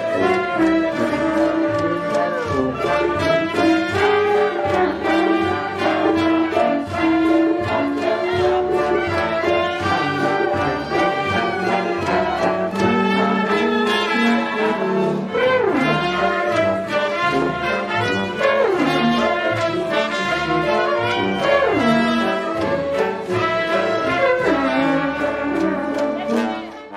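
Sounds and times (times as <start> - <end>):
brass downward pitch slide: 0.0 - 26.9
brass instruments playing: 0.0 - 26.9.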